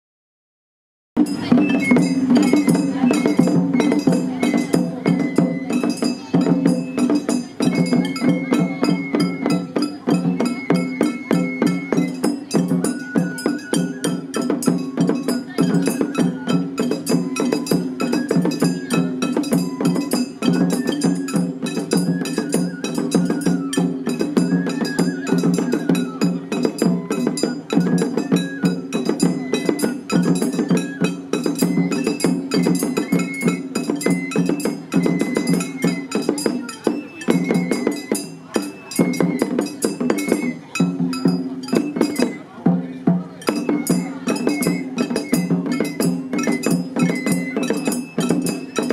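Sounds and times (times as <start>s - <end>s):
bamboo flute melody: 1.2s - 48.9s
taiko drum strokes: 1.2s - 48.9s.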